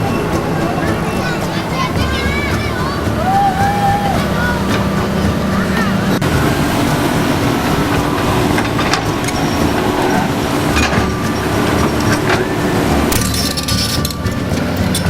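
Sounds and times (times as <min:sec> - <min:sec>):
heavy diesel engine running: 0:00.0 - 0:15.0
sharp metallic clanks: 0:00.0 - 0:15.0.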